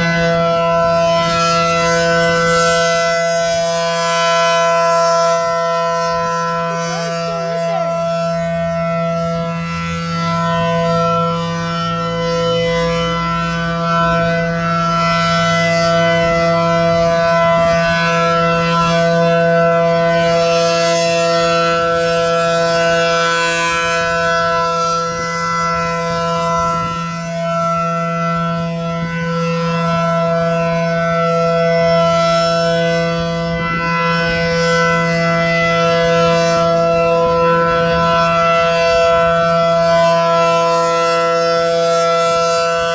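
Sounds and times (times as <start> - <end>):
electronic siren steady tone: 0.0 - 42.9.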